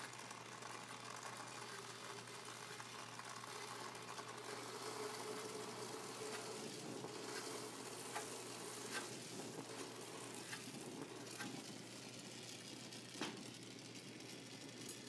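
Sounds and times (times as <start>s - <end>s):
gas torch flame hissing: 0.0s - 15.0s
solder sizzling and popping: 0.0s - 15.0s.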